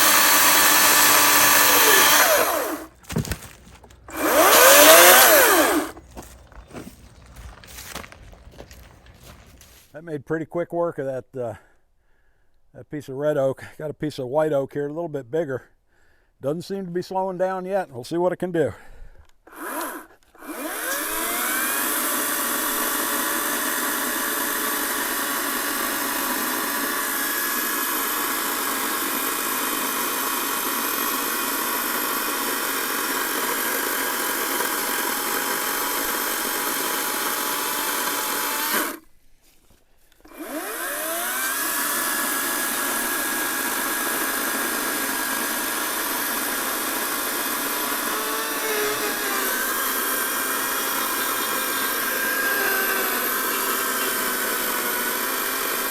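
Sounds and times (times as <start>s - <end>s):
chainsaw cutting wood: 0.0s - 10.0s, 19.5s - 39.1s, 40.2s - 55.9s.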